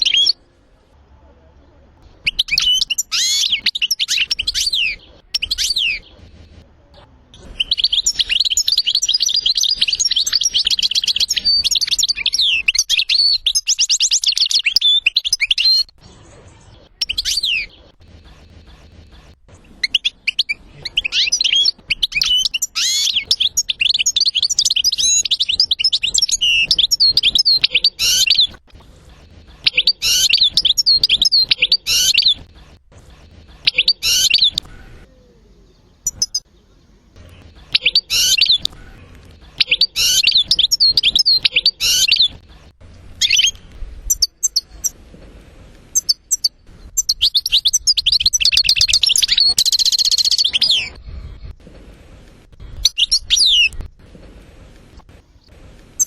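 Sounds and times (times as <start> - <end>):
bird twittering song: 0.0 - 0.4, 2.0 - 28.6, 29.5 - 45.0, 45.9 - 51.2.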